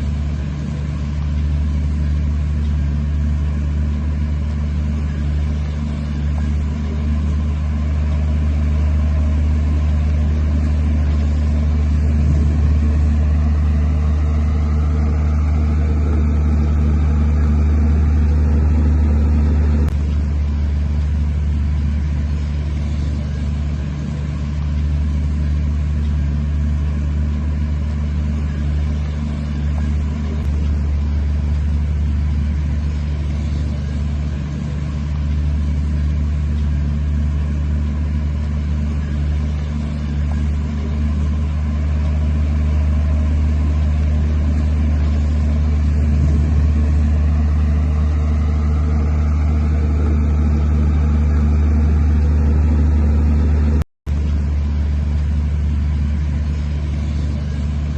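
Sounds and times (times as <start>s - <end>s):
heavy diesel engine droning: 0.0s - 57.9s.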